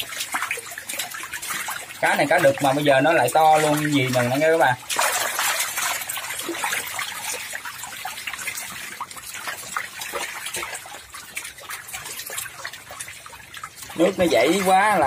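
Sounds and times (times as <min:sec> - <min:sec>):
fish splashing at water surface: 0:00.0 - 0:15.0.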